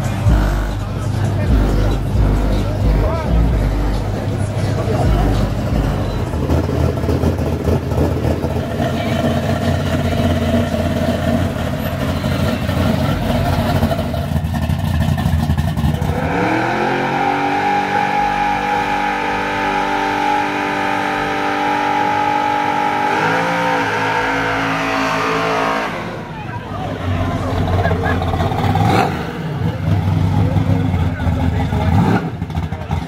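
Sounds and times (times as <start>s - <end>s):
car engine revving high: 0.0s - 26.5s, 28.4s - 32.7s
car engine rumbling: 0.0s - 33.0s.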